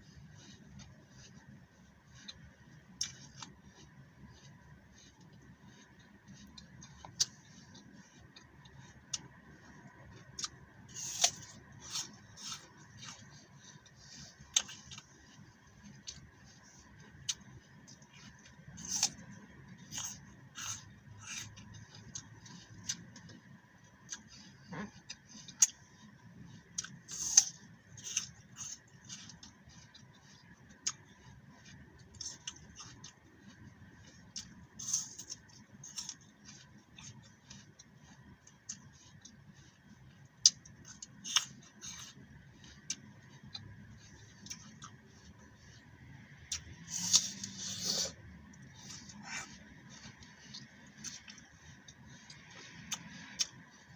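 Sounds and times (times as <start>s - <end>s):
crunchy apple chewing: 2.1s - 53.9s.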